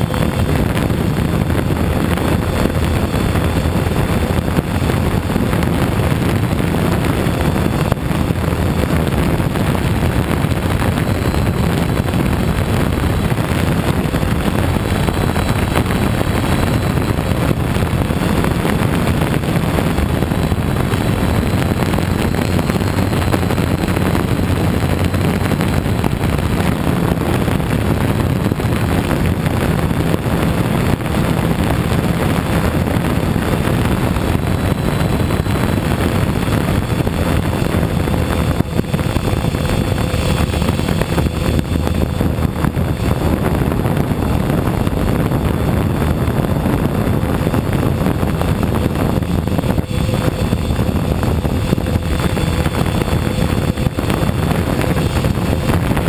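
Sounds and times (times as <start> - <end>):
drone propellers droning: 0.0 - 56.0
wind buffeting microphone: 0.0 - 56.0.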